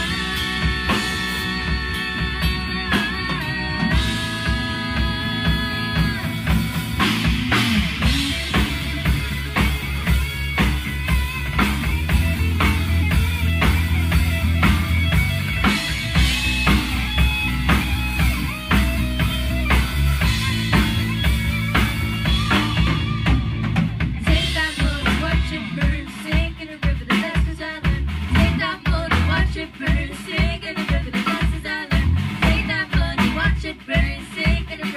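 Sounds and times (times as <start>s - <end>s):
bass guitar: 0.0s - 34.9s
drum kit beat: 0.0s - 34.9s
electric guitar: 0.0s - 34.9s.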